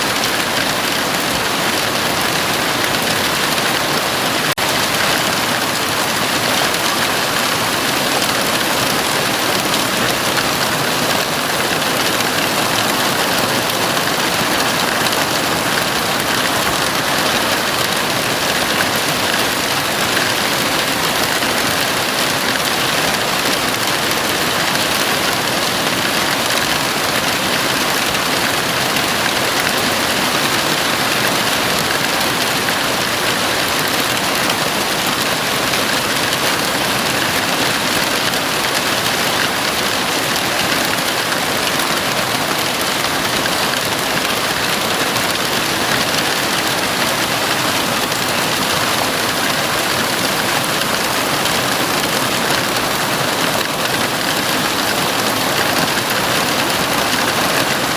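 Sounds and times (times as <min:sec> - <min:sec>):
heavy rain on a roof: 0:00.0 - 0:57.9.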